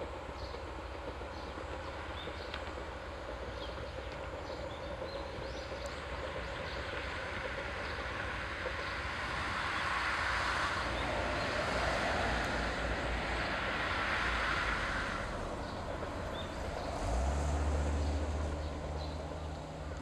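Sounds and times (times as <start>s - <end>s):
diesel railcar rumbling: 0.0s - 20.0s.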